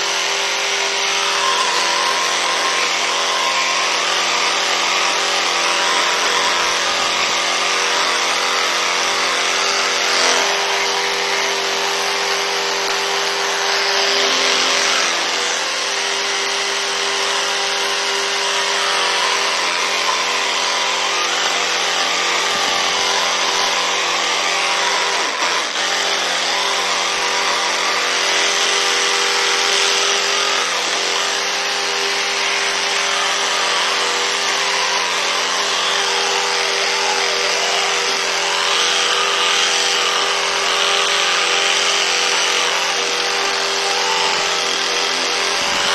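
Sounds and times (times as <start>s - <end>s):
electric toothbrush buzzing: 0.0s - 45.9s.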